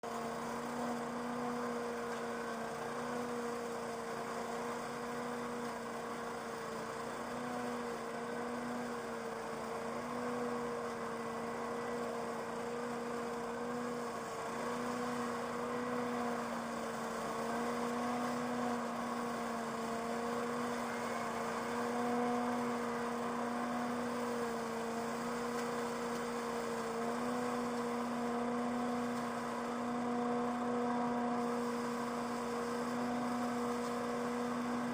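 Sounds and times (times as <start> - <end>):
leaf vacuum motor humming: 0.0 - 34.9.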